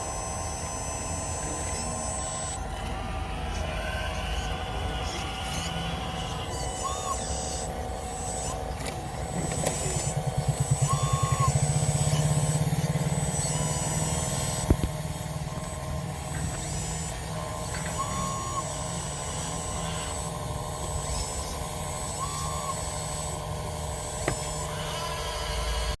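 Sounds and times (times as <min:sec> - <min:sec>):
toy motors whining: 0:00.0 - 0:26.0.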